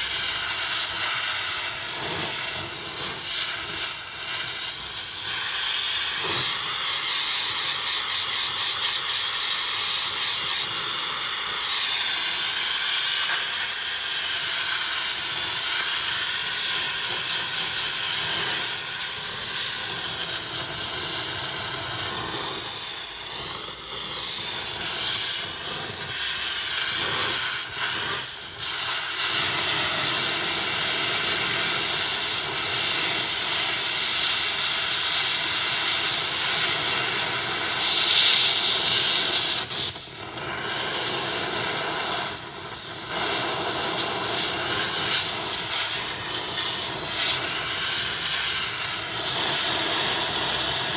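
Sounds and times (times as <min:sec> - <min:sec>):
torch flame hissing: 0:00.0 - 0:50.9.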